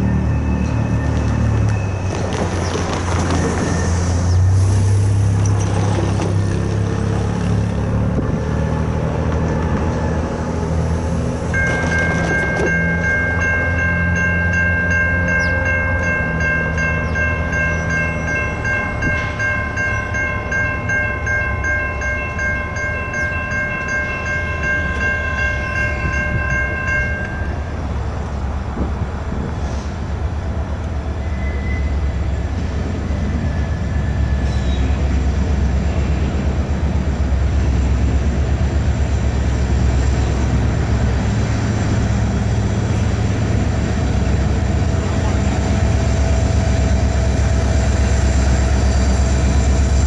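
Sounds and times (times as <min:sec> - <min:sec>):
diesel locomotive rumbling: 0:00.0 - 0:50.0.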